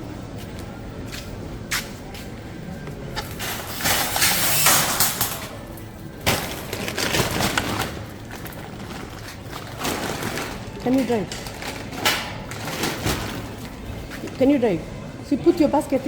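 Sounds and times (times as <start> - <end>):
metal shopping trolleys clanking: 0.0 - 16.0.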